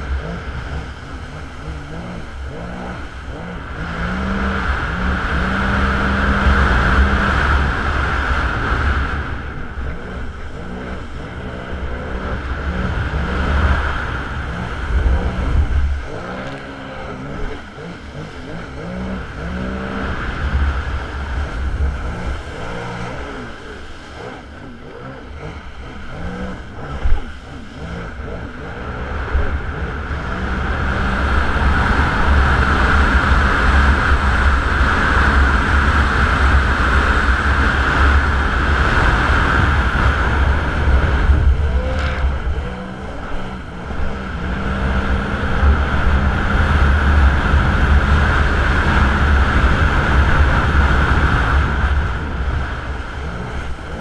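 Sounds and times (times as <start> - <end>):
watercraft engine revving: 0.0 - 54.0
wind rumble on microphone: 0.0 - 54.0.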